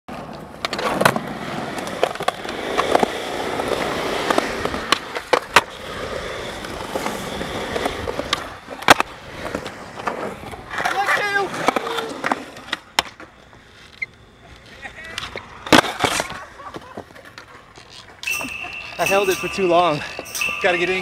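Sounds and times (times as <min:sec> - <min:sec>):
skateboard clacking on ground: 0:00.1 - 0:21.0
skateboard wheels rolling: 0:00.1 - 0:21.0.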